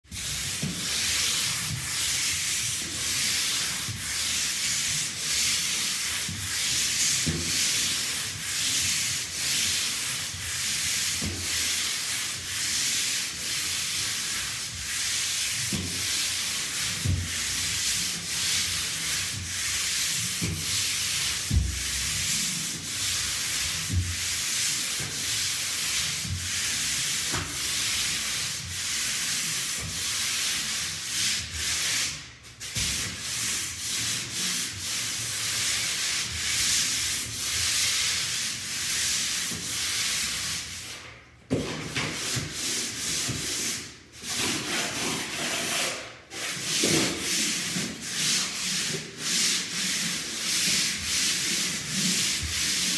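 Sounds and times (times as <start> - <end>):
sandpaper scratching on drywall: 0.1 - 52.9.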